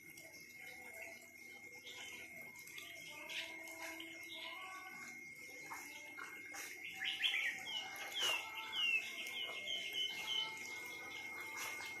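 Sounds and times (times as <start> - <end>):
faint high-pitched tone: 0.0 - 12.0
songbird chirping: 0.0 - 12.0.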